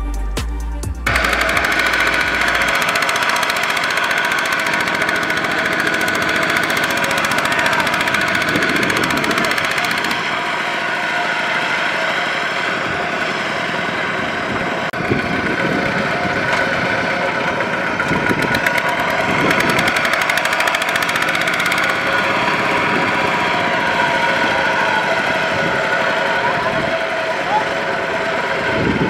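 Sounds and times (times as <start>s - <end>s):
diesel engine knocking: 1.1s - 29.0s.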